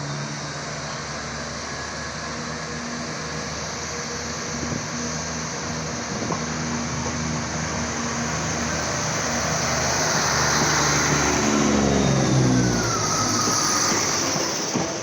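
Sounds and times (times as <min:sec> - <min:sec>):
train motor hum slowing: 0:00.0 - 0:15.0.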